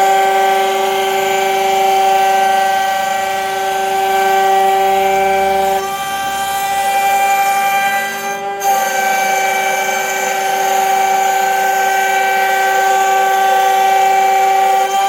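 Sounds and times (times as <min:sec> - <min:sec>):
router spindle whine carving wood: 0:00.0 - 0:15.0.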